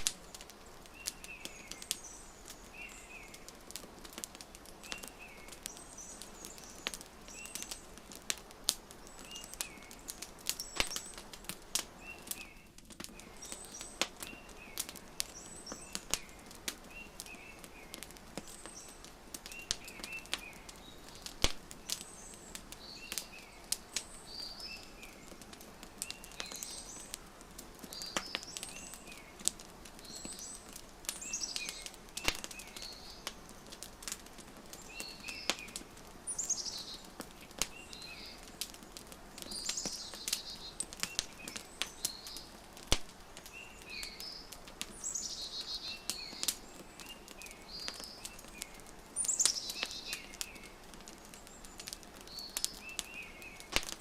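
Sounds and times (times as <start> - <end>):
birds twittering: 0.0 - 8.2, 8.9 - 27.2, 27.8 - 42.6, 43.4 - 54.0
wood fire crackling and popping: 0.0 - 54.0.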